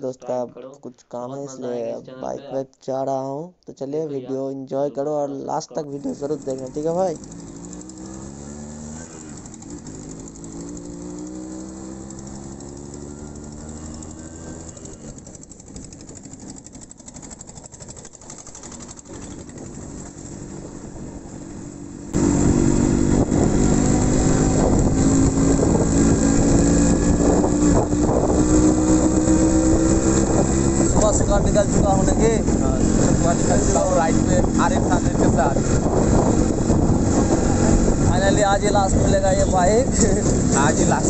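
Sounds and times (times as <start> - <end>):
motorcycle engine accelerating: 6.0 - 41.0.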